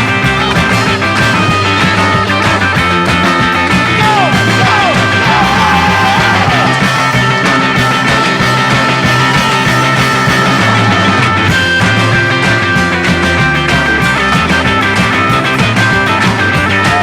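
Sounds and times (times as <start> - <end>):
lead guitar bending pitch: 0.0 - 17.0
rock song with steady beat: 0.0 - 17.0.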